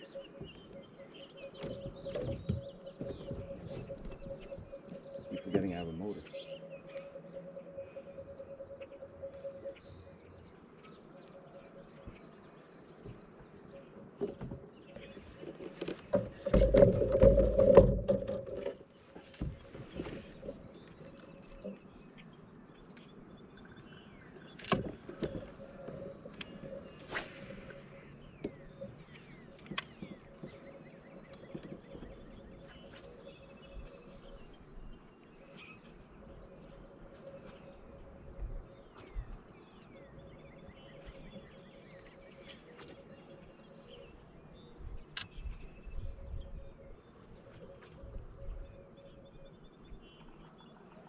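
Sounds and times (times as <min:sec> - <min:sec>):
birds chirping and singing: 0:00.0 - 0:51.0.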